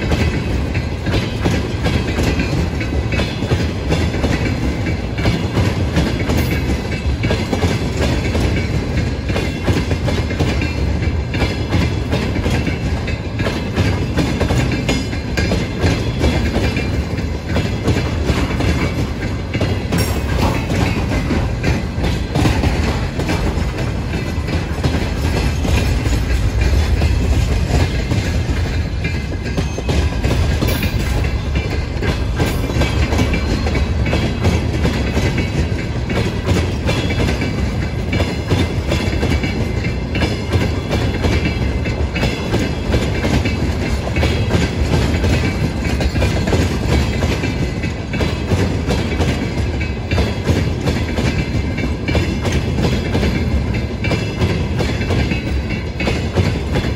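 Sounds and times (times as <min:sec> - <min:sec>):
freight train wheels clacking: 0:00.0 - 0:56.9.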